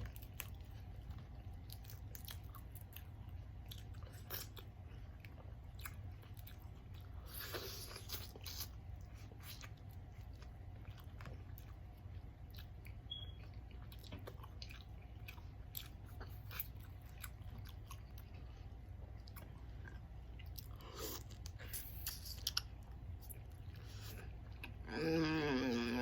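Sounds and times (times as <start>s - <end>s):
chewing and biting seafood: 0.0s - 25.0s
steady low hum: 0.0s - 26.0s.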